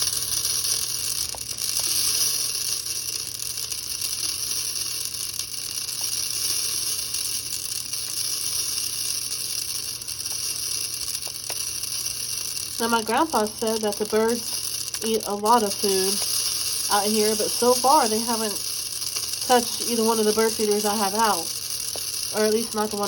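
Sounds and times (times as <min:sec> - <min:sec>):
seeds pouring through a funnel: 0:00.0 - 0:23.0.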